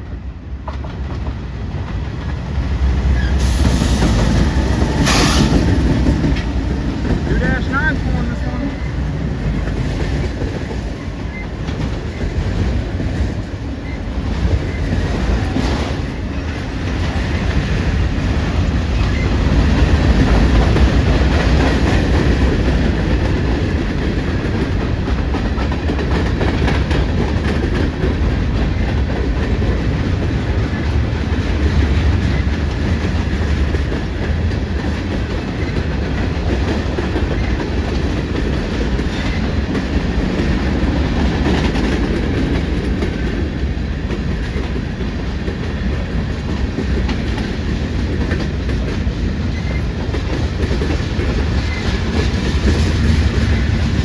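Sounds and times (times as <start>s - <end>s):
freight train rumble: 0.0s - 54.0s
train wheels clacking: 0.0s - 54.0s.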